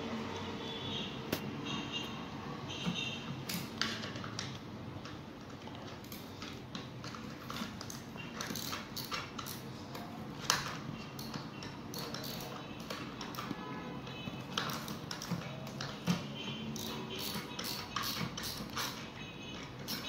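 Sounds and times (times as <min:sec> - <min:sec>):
plastic parts clicking and tapping: 0:02.7 - 0:20.0.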